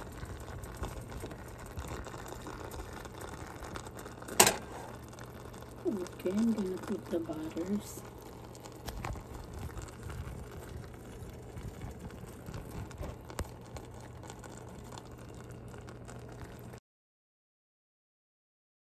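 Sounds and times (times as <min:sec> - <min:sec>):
low kitchen hum: 0:00.0 - 0:16.8.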